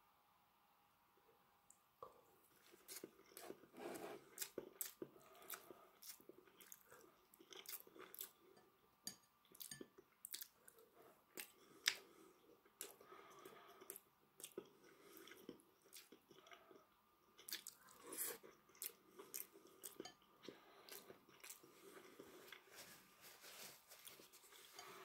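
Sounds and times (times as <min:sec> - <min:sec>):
chewing food: 0:02.0 - 0:08.7, 0:09.4 - 0:22.9.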